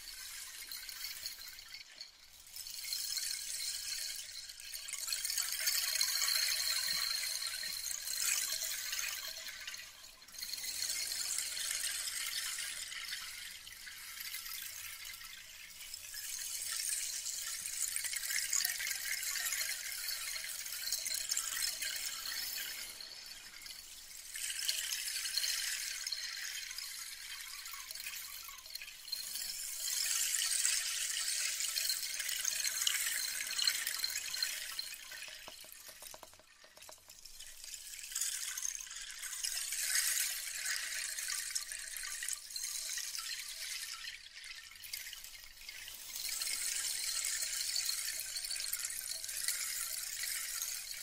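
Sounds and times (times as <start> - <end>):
crackly hiss close-up: 0.0 - 51.0.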